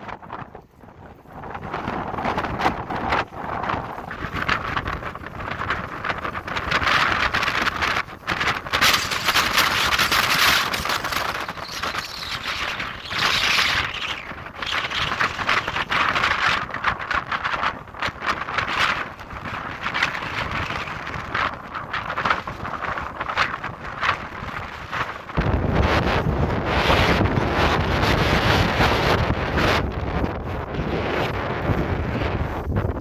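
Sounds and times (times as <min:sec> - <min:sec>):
strong wind howling: 0:00.0 - 0:33.0.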